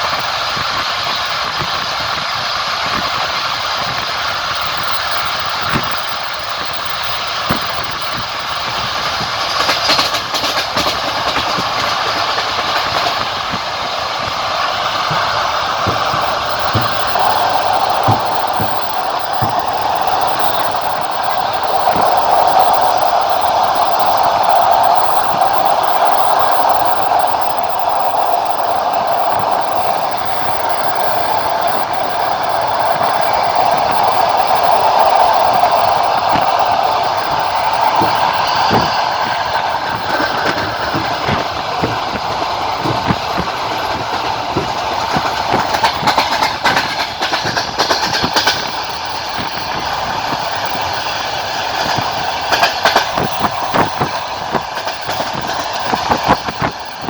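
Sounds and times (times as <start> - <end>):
train rolling rumble: 0.0 - 57.0
train wheels clicking over rail joints: 0.0 - 57.0.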